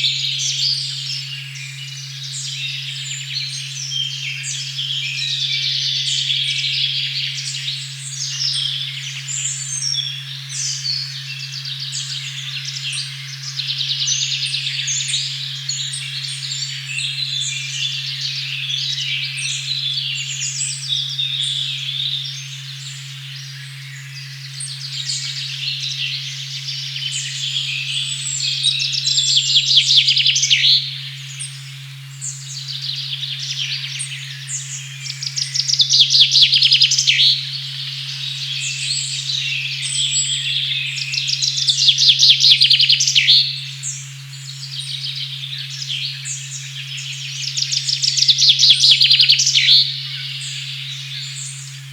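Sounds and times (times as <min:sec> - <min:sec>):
forest birdsong chirping: 0:00.0 - 0:51.9
low sine tone hum: 0:00.0 - 0:51.9.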